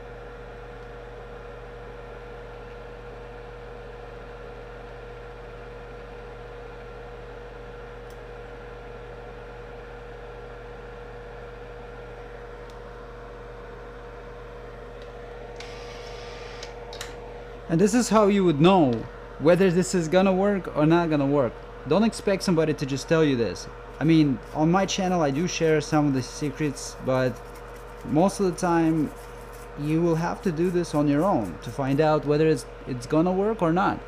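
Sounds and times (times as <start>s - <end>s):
electrical hum with hiss: 0.0s - 34.0s
low mains buzz: 0.0s - 34.0s.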